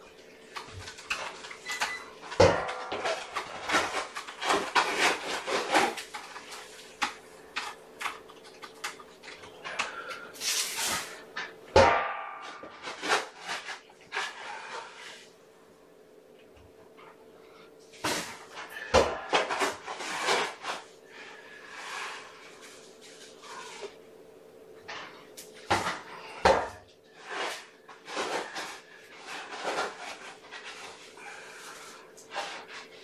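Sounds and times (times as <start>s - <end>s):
rustling and clattering of objects: 0.2s - 15.4s, 17.8s - 24.0s, 24.8s - 33.0s.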